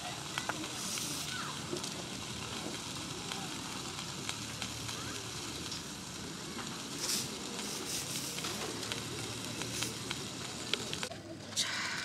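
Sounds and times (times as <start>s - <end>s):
fire sizzling and crackling: 0.0s - 12.0s.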